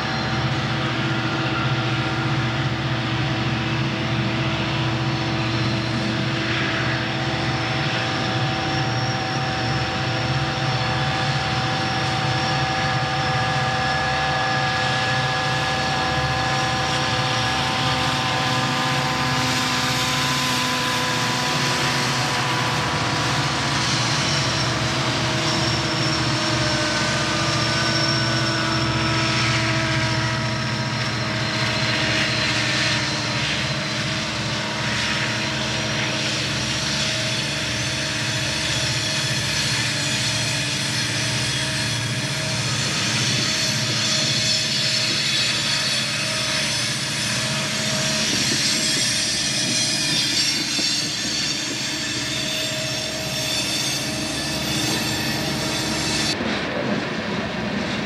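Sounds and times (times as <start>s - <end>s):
high wheel squeal: 0.0s - 56.5s
diesel locomotive engine drone: 0.0s - 58.0s
train cars rolling on rails: 0.0s - 58.0s.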